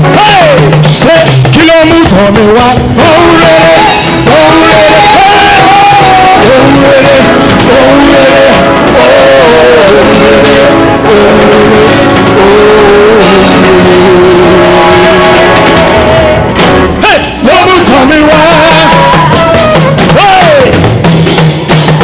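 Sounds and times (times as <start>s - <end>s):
live gospel band music: 0.0s - 22.0s.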